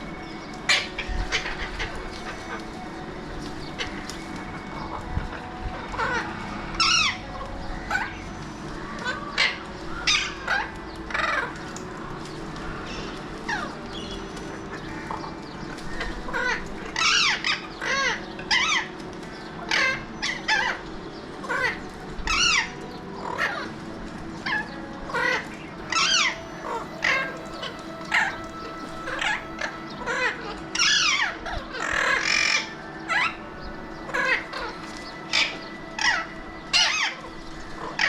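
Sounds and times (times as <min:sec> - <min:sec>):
parakeets squawking: 0:00.0 - 0:38.0.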